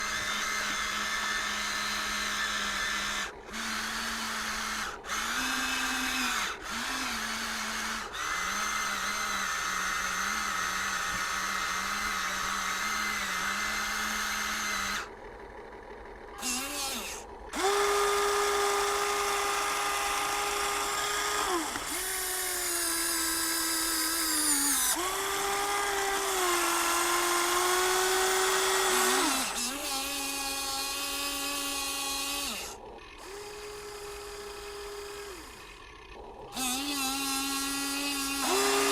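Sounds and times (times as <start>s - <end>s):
electric gear motors whining: 0.0s - 38.9s.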